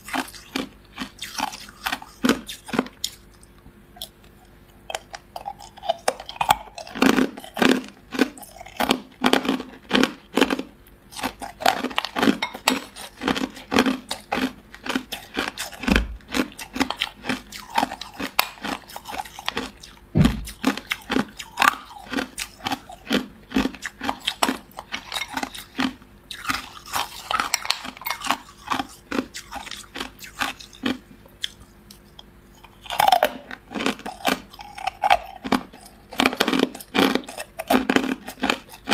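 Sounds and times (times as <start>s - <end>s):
ice cubes crunching: 4.9s - 31.6s, 32.6s - 38.9s.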